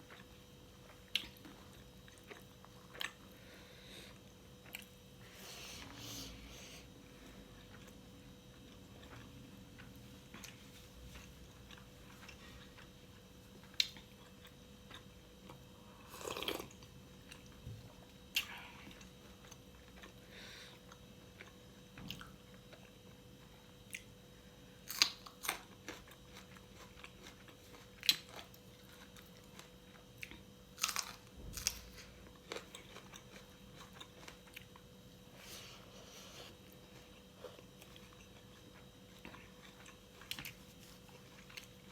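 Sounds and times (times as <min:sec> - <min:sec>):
person chewing crunchy food: 0:00.0 - 0:24.2, 0:24.8 - 0:41.9.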